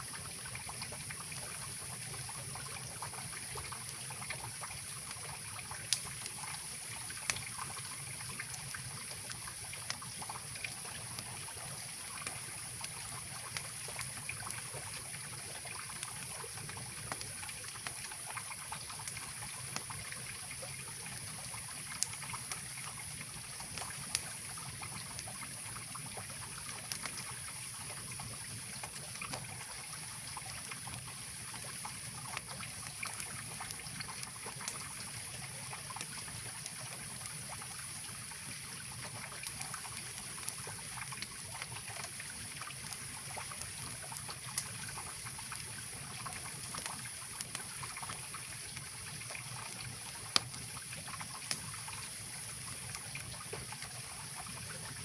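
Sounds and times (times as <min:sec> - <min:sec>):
campfire popping and crackling: 0:00.0 - 0:55.0.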